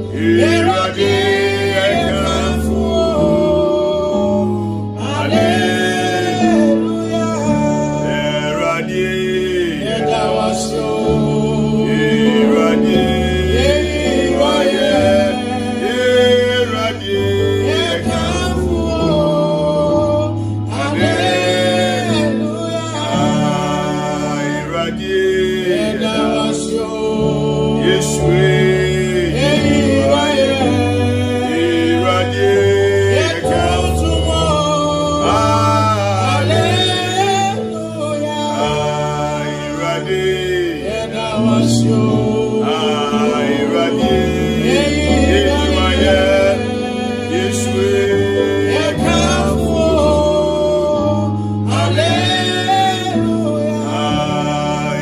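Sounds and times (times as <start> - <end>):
instrumental backing with bass line: 0.0 - 55.0
man singing gospel: 0.0 - 55.0.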